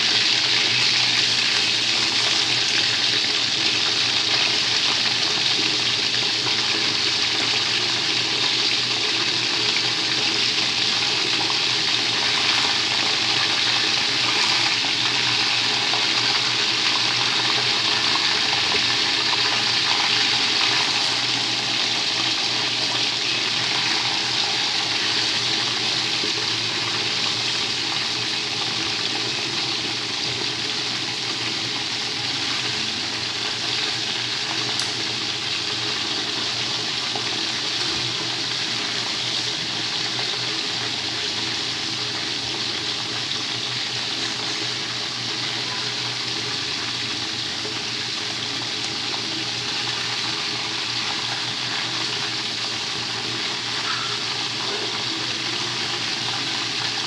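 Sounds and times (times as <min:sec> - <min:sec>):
chicken frying in a pan: 0:00.0 - 0:57.0.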